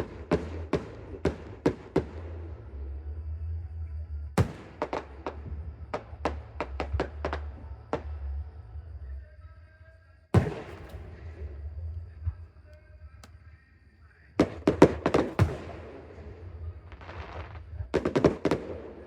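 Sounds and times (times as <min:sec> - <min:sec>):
fireworks bangs: 0:00.0 - 0:02.9, 0:04.4 - 0:08.4, 0:10.3 - 0:19.0.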